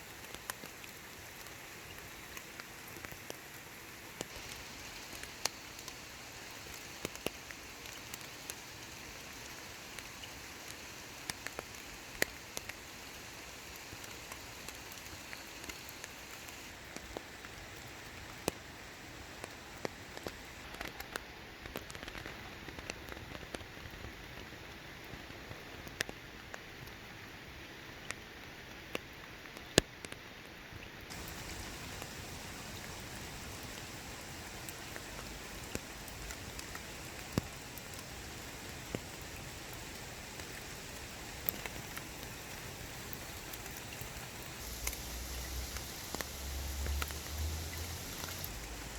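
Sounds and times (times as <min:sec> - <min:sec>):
rain pattering on water and leaves: 0:00.0 - 0:48.9.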